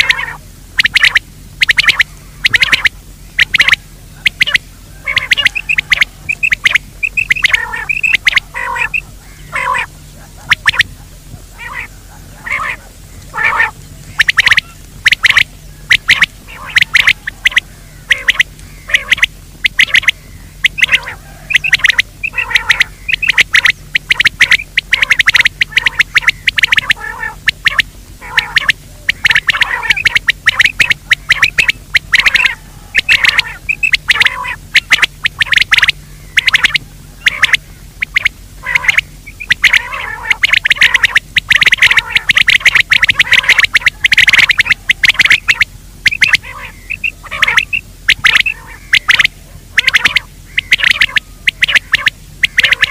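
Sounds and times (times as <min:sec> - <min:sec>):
game bird calls: 0:00.0 - 0:52.9.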